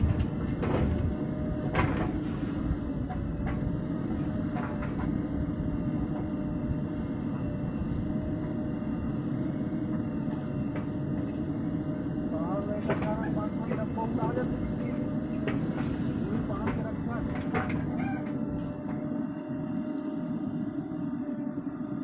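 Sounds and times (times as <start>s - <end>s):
diesel engine running: 0.0s - 21.1s.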